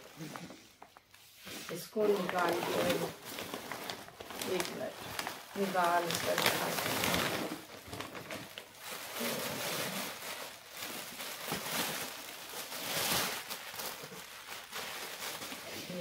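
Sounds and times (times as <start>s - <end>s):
plastic bags rustling and crinkling: 0.0s - 16.0s.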